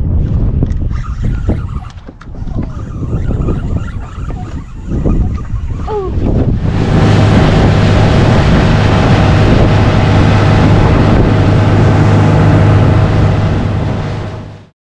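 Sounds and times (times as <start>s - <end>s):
rush of boat wake and spray: 0.0s - 14.7s
outboard motor running: 0.2s - 14.7s.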